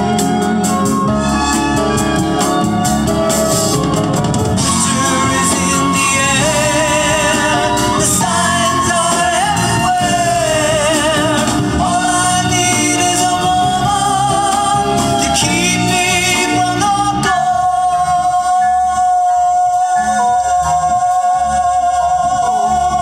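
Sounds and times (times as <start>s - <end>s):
instrumental backing music: 0.0s - 23.0s
person singing with vibrato: 0.0s - 23.0s.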